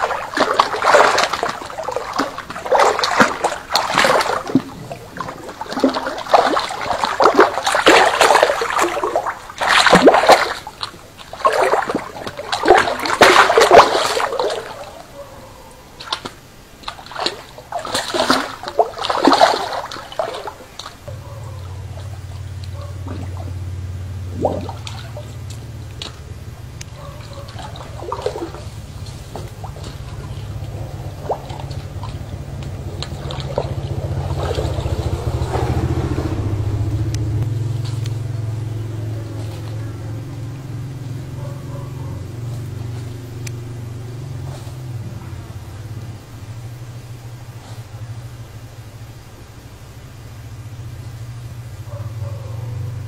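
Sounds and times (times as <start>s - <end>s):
steady low hum: 0.0s - 53.0s
water splashing and sloshing: 0.0s - 53.0s.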